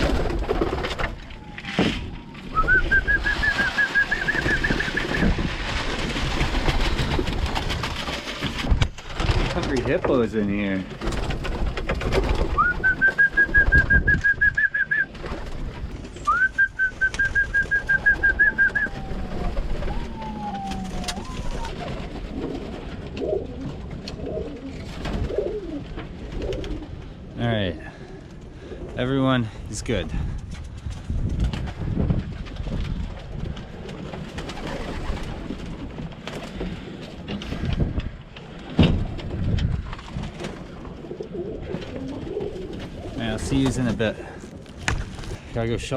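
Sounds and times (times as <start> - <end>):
clicks and shuffling of flock: 0.0 - 27.6, 28.2 - 45.9
pigeons rustling and pecking: 0.0 - 45.9.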